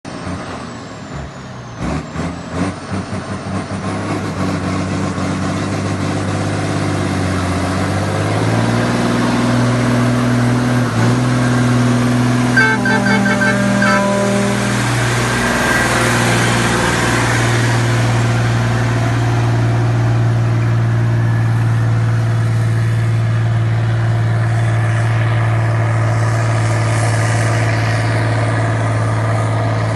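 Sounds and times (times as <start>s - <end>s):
diesel truck engine running: 0.1s - 29.9s.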